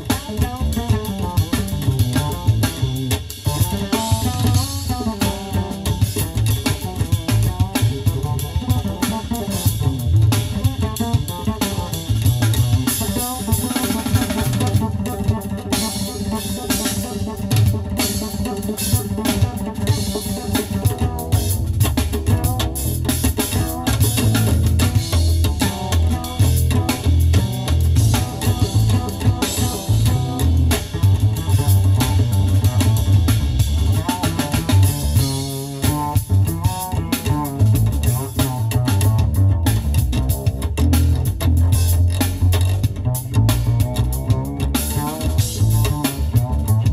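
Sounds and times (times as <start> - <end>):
jazz fusion with drums and bass: 0.0 - 46.9.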